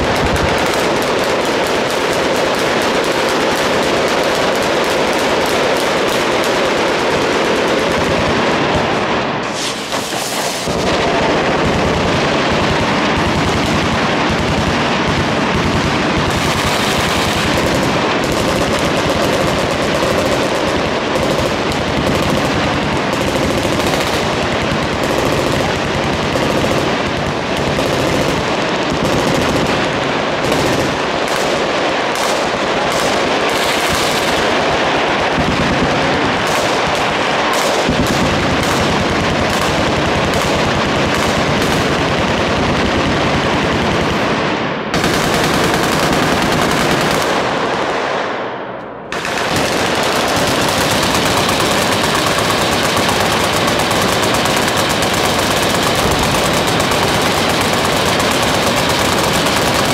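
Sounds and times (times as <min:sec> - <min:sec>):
machine gun fire: 0:00.0 - 0:48.1, 0:49.1 - 0:59.9.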